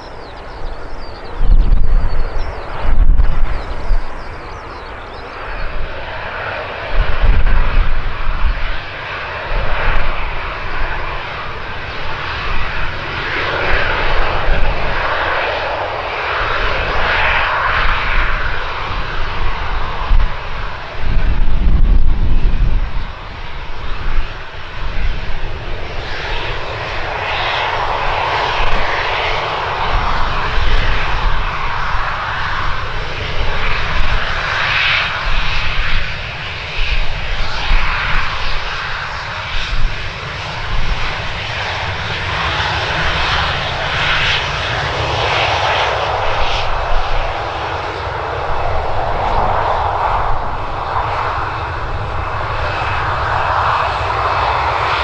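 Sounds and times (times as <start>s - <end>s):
jet engines rush and whine: 0.0s - 55.0s.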